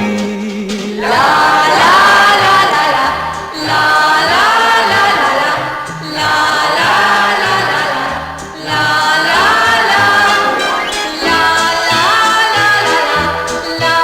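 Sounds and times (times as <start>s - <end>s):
band accompaniment: 0.0s - 14.0s
vocal group singing: 0.0s - 14.0s.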